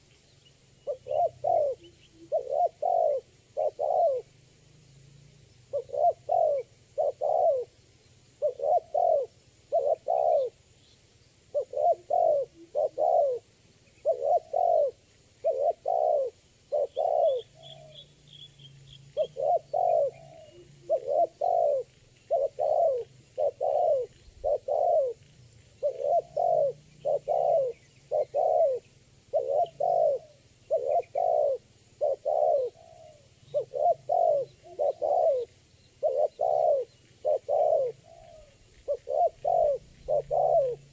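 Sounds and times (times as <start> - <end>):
dove cooing: 0.8 - 4.4, 5.6 - 10.7, 11.5 - 18.4, 19.1 - 40.9.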